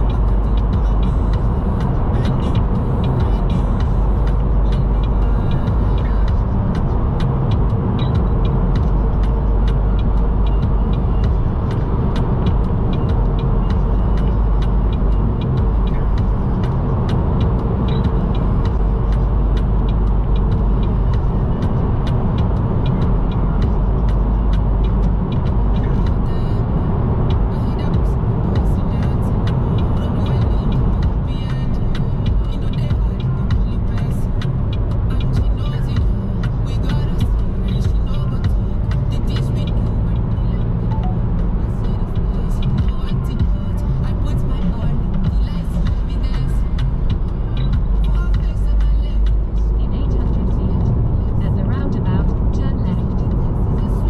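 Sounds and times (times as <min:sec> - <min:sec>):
vehicle road and engine noise: 0:00.0 - 0:54.0.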